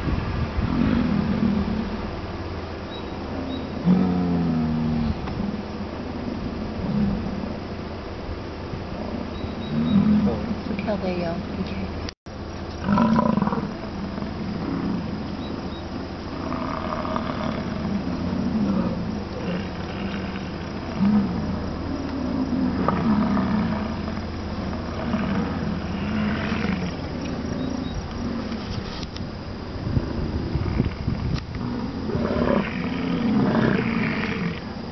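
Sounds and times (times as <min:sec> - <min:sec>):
bison bellowing: 0:00.6 - 0:07.7, 0:08.8 - 0:11.6, 0:12.8 - 0:28.8, 0:29.7 - 0:34.8.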